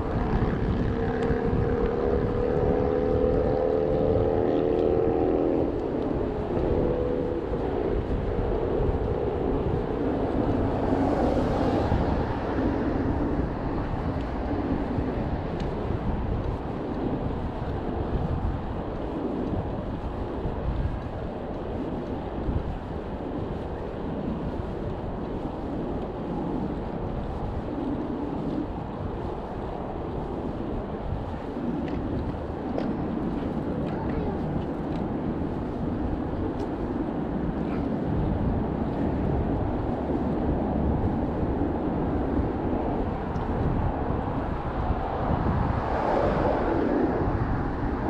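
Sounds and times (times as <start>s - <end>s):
road traffic hum: 0.0s - 48.0s
wind buffeting microphone: 0.0s - 48.0s.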